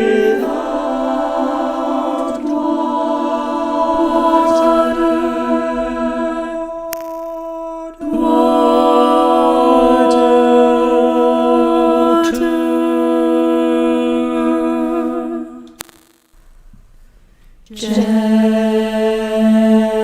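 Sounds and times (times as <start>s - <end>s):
voices humming and singing chords: 0.0s - 15.9s, 17.7s - 20.0s.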